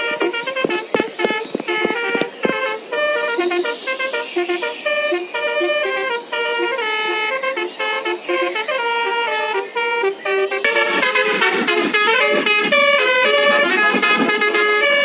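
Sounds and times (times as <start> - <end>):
multi-tone air horn tune: 0.0 - 15.0.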